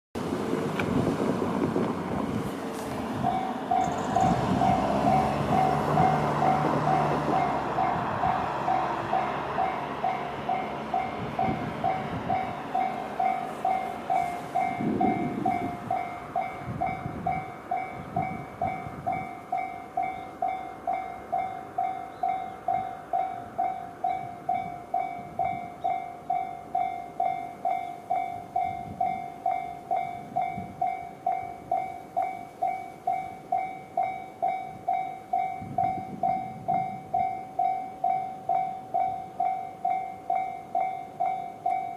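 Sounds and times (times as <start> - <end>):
train rumble: 0.2 - 41.9
level-crossing electronic bell: 3.2 - 41.9.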